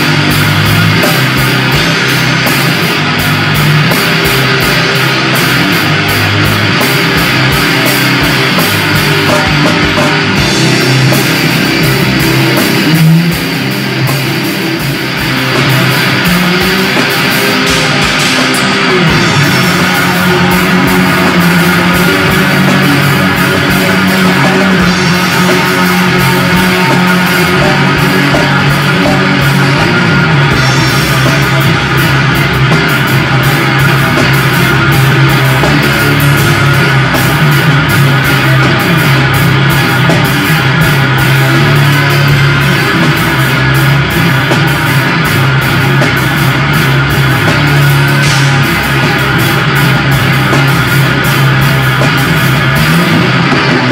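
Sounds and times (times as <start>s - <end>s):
drum kit: 0.0s - 53.9s
rock guitar: 0.0s - 53.9s.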